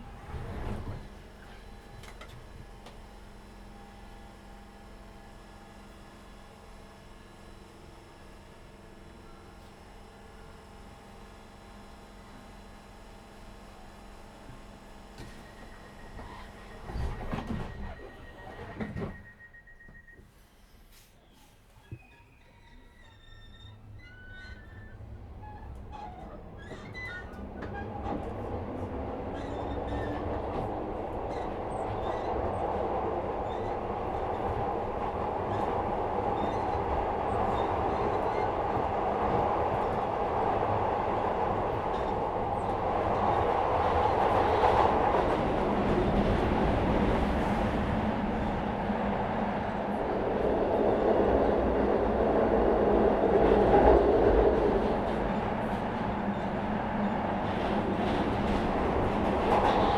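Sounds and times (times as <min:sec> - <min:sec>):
train wheel and running noise: 0:00.0 - 0:59.9.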